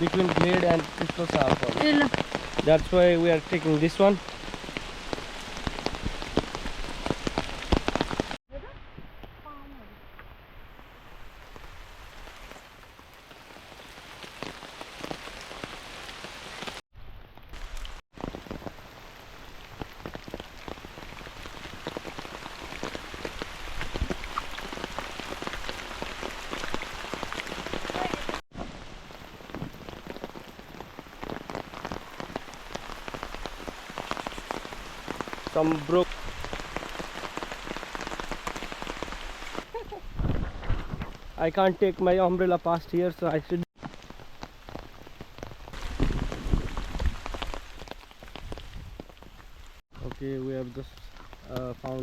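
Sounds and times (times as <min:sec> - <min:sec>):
rain falling: 0:00.0 - 0:40.2, 0:41.1 - 0:52.0.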